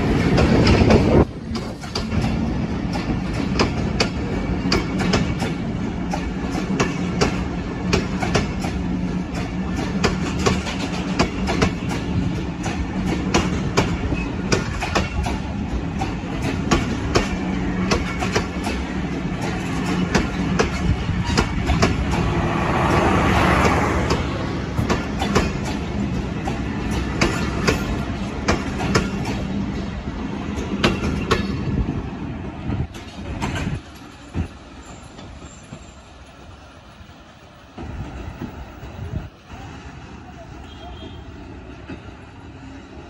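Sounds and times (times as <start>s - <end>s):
train wheels clacking over rail joints: 0.0s - 31.9s, 32.6s - 39.4s
train rumble: 0.0s - 43.0s.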